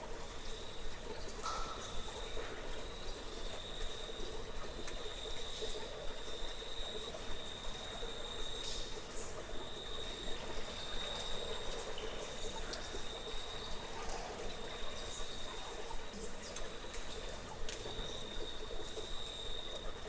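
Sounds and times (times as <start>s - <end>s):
water trickling: 0.2s - 20.0s.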